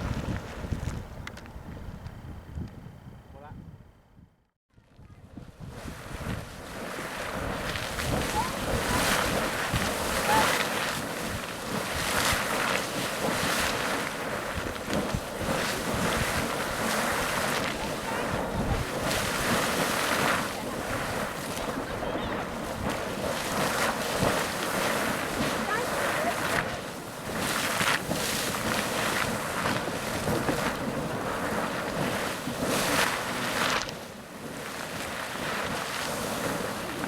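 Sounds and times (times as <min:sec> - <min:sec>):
wind on microphone: 0:00.0 - 0:37.0
geyser water splashing: 0:05.4 - 0:37.0.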